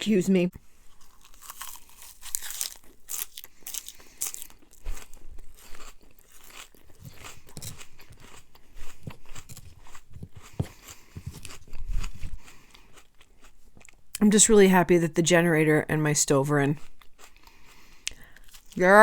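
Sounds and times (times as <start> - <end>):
person crunching and chewing: 0.6 - 14.2, 16.8 - 19.0.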